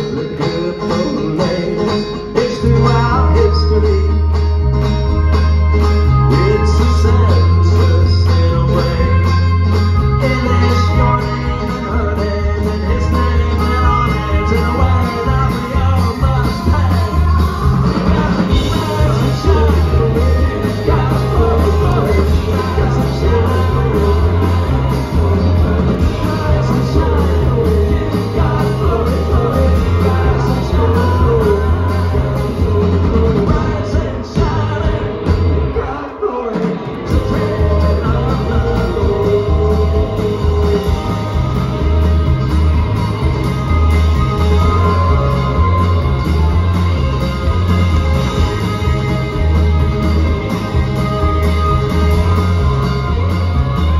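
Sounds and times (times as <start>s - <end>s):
steel guitar: 0.0s - 36.1s, 36.7s - 53.9s
live band playing driving music: 0.0s - 53.9s
drum kit beat: 5.1s - 53.9s.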